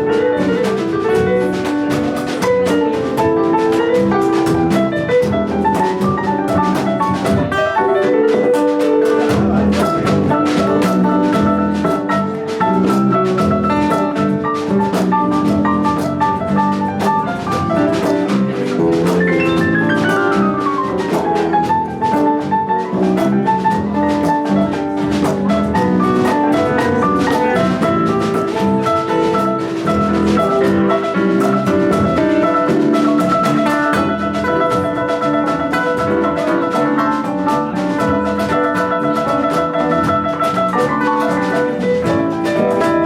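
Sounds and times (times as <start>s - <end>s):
drum kit beat: 0.0s - 43.0s
live band playing: 0.0s - 43.0s.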